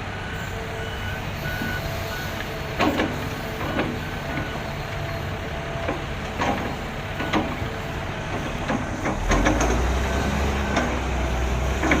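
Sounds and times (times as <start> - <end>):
heavy machinery engine rumble: 0.0 - 12.0.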